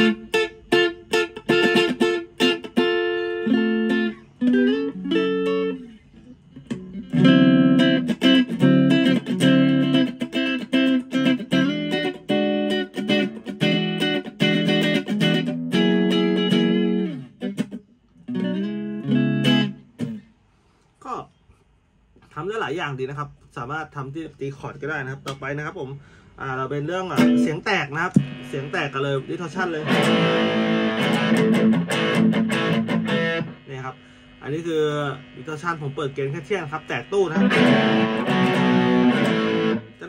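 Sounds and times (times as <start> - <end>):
electric guitar clean tone: 0.0 - 20.3, 27.0 - 40.0.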